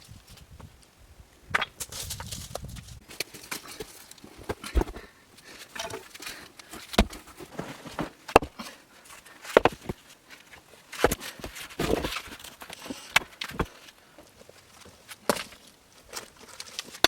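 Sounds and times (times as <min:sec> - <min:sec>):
stones clattering and scraping: 0:01.6 - 0:14.0, 0:14.8 - 0:17.0.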